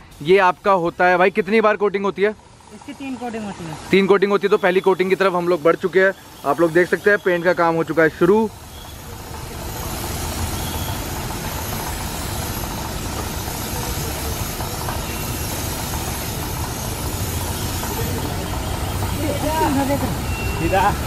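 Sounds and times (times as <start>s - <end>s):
paint spray gun hissing: 0.0s - 1.8s, 2.6s - 21.0s.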